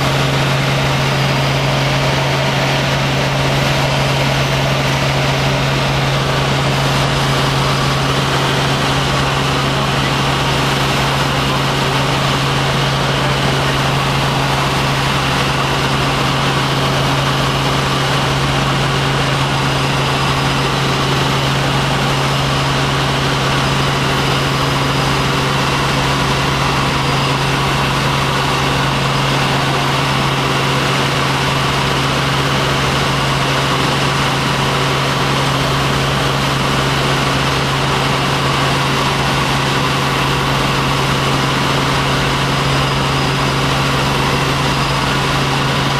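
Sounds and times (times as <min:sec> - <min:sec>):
helicopter in flight: 0:00.0 - 0:45.9.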